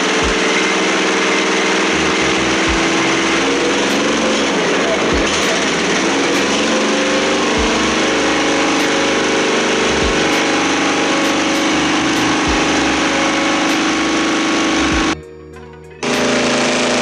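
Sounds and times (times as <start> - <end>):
engine running steadily: 0.0 - 15.2, 16.0 - 17.0.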